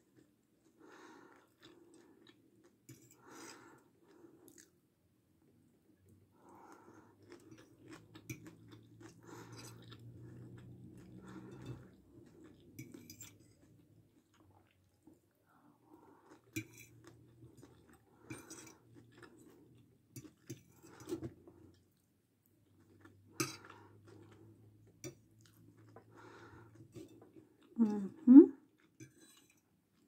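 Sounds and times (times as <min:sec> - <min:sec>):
chewing food: 0:00.0 - 0:04.8, 0:06.0 - 0:30.0.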